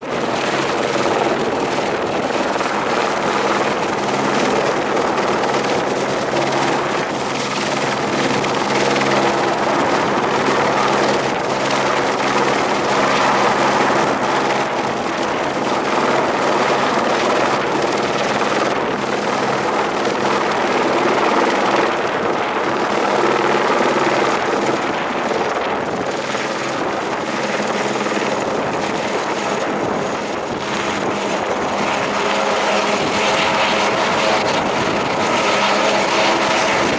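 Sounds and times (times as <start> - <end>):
helicopter running: 0.0 - 36.9.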